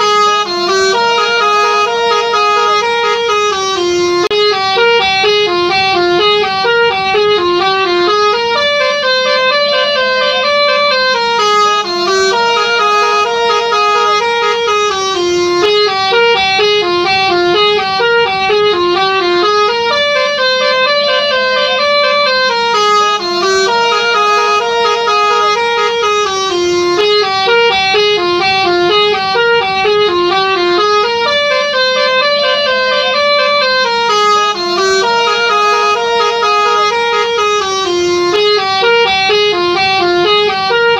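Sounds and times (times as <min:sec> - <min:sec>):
multi-tone bus horn melody: 0:00.0 - 0:40.9.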